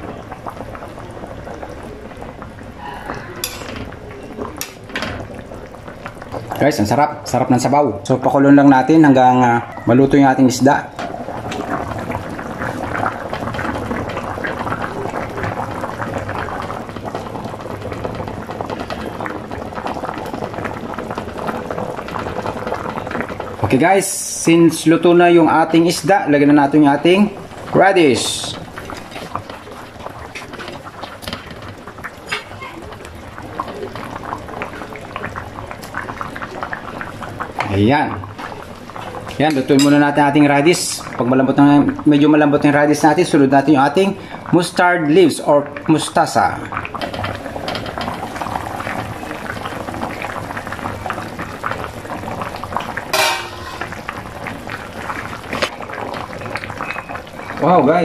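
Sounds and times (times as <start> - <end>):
soup boiling and bubbling: 0.0 - 58.0.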